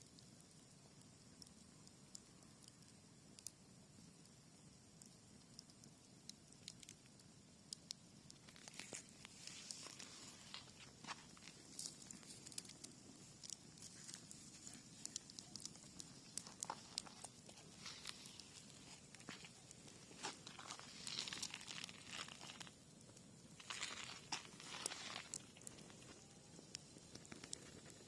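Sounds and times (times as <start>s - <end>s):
campfire crackling: 0.0s - 28.0s
soft hiss of fire: 0.0s - 28.0s.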